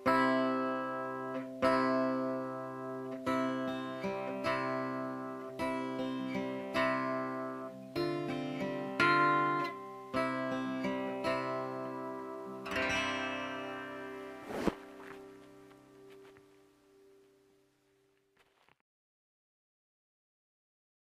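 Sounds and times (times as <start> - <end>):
acoustic guitar strumming chords: 0.0 - 17.4.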